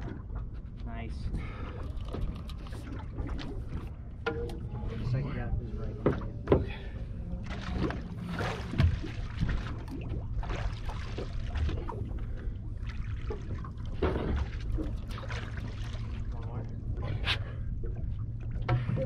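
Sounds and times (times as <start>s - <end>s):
low steady rumble: 0.0s - 19.0s
water sloshing against boat: 0.0s - 19.0s.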